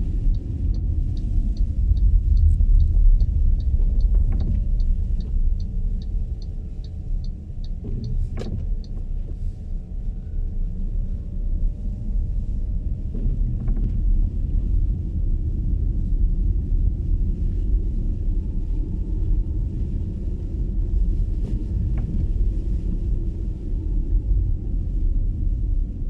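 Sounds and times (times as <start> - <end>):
road and tyre rumble: 0.0 - 26.0.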